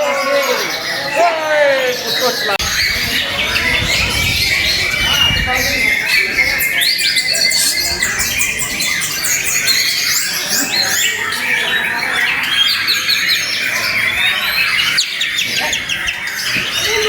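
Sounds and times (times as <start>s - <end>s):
birds singing and trilling: 0.0s - 17.0s.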